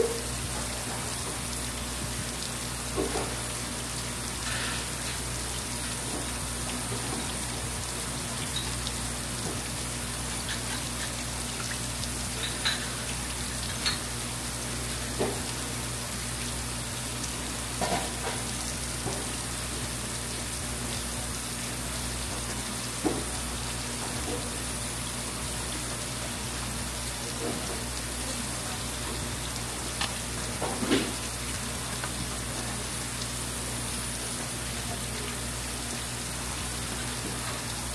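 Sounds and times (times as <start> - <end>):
running water rushing: 0.0 - 37.9.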